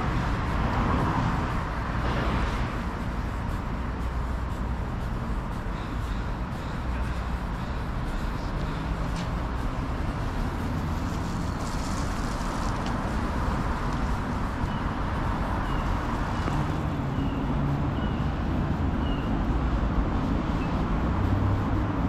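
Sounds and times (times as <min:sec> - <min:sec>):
street traffic passing: 0:00.0 - 0:22.0.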